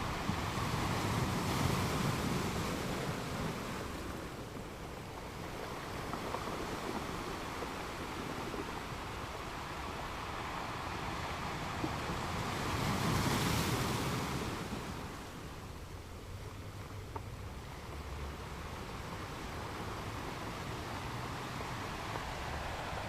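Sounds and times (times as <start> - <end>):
ocean surf washing: 0.0 - 23.0.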